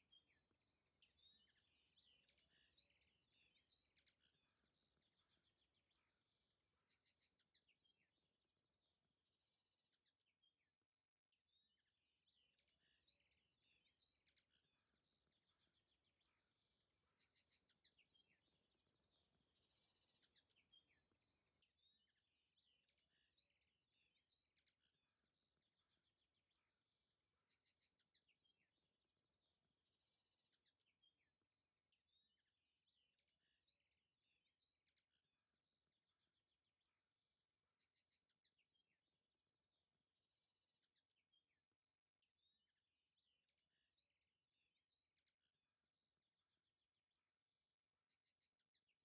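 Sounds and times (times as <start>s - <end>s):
faint songbirds chirping: 0.0s - 49.0s.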